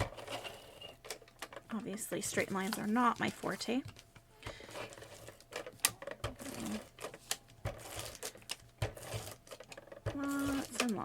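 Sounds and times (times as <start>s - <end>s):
tape gun running along paper: 2.1s - 11.0s.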